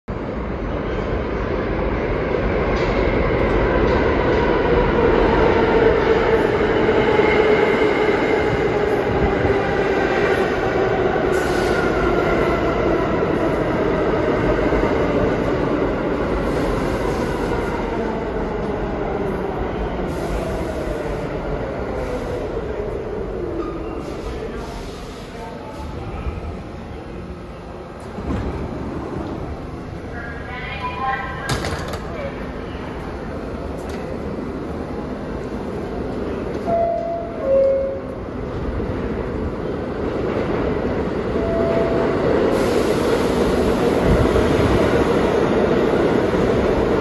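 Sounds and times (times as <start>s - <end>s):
subway train wheels rumbling: 0.1s - 47.0s.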